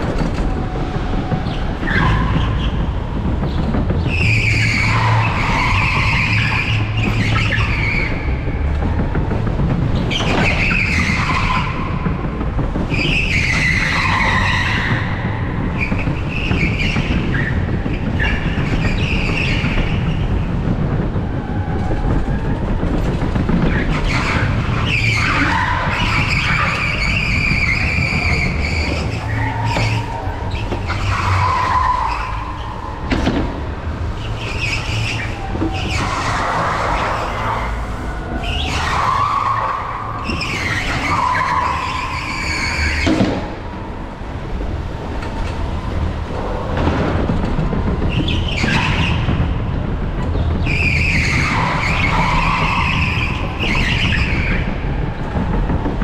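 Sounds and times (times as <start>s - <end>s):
go-kart rumble: 0.0s - 56.0s
tyre squeals: 1.4s - 9.0s, 10.0s - 20.5s, 23.6s - 43.8s, 47.5s - 49.6s, 50.3s - 55.8s.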